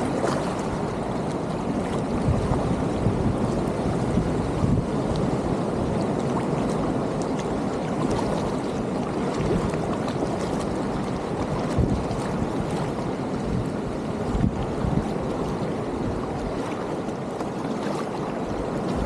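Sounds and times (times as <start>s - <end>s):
water lapping against kayak hull: 0.0s - 19.0s
wind on microphone: 0.0s - 19.0s.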